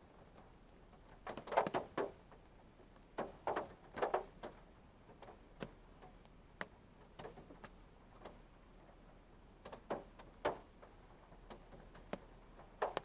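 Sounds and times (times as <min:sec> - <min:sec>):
rain drops tapping on car roof: 0:00.2 - 0:13.0.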